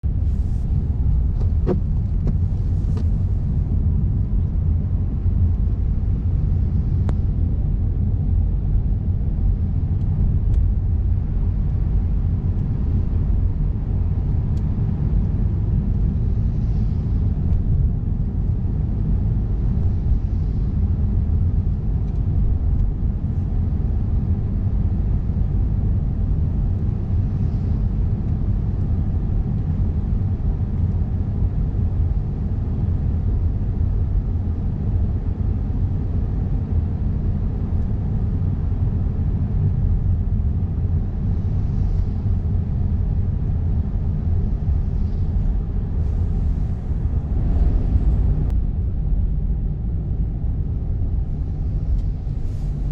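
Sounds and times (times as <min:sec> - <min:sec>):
car road and engine rumble: 0:00.0 - 0:52.9.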